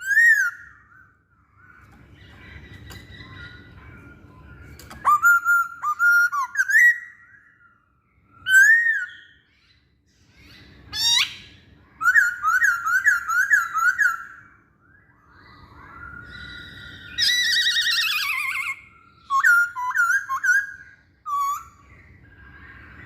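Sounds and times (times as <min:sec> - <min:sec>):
bird singing whistled phrases: 0:00.0 - 0:01.2, 0:02.2 - 0:09.7, 0:10.3 - 0:23.0.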